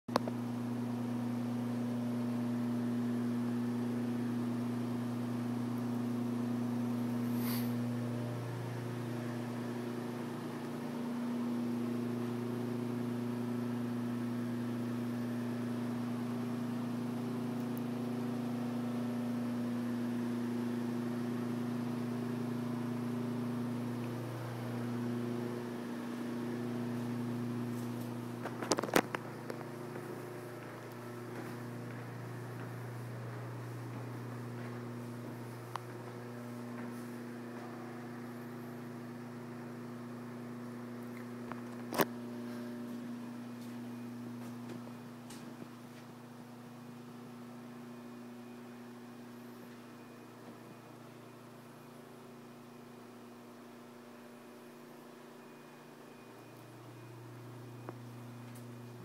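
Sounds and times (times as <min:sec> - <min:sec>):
low mechanical hum: 0:00.1 - 0:59.0.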